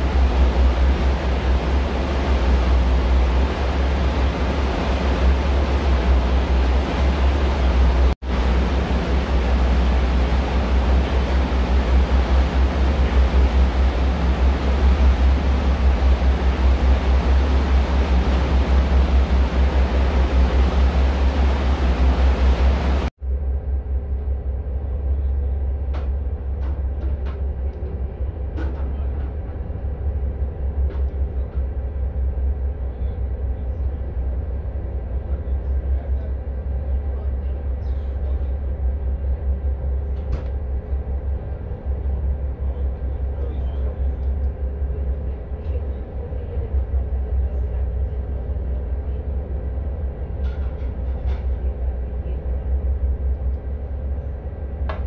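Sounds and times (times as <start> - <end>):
boat engine rumbling: 0.0 - 55.0.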